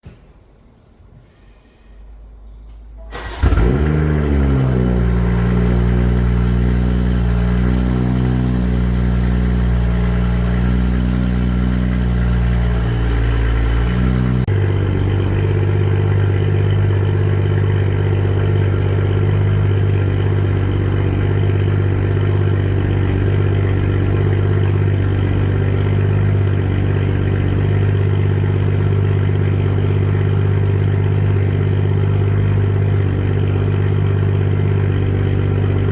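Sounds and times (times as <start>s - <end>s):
car engine idling: 3.0s - 35.9s.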